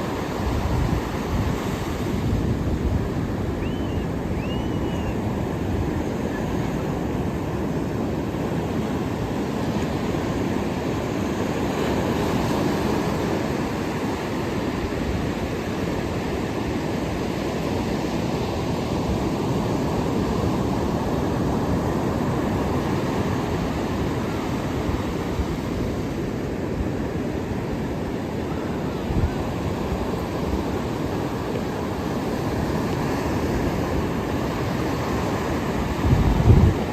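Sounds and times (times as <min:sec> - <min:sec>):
ocean surf washing on shore: 0:00.0 - 0:36.9.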